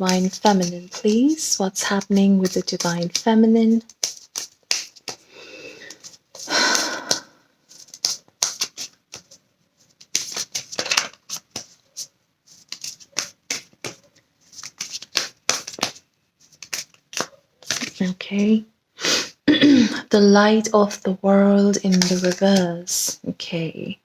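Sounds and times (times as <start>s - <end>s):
cards being shuffled: 0.0s - 18.5s, 21.9s - 23.2s
sliding cards rustling: 0.0s - 18.6s, 21.8s - 23.2s.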